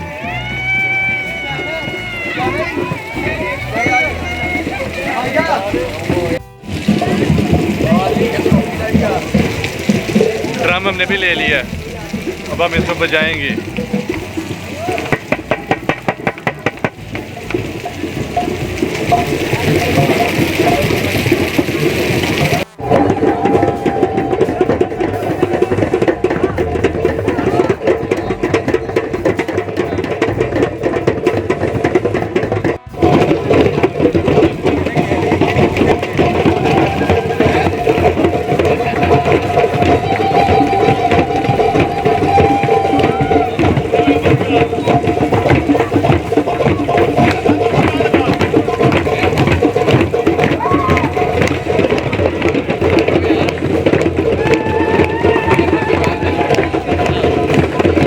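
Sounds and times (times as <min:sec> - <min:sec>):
held melodic note: 0:00.0 - 0:28.8, 0:32.8 - 0:58.0
fast dense drumming: 0:00.0 - 0:58.0
people's voices: 0:00.0 - 0:58.0.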